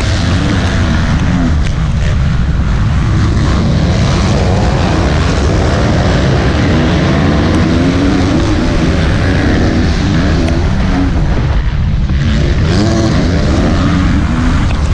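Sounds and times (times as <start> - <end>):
motocross bike engines revving: 0.0 - 14.9.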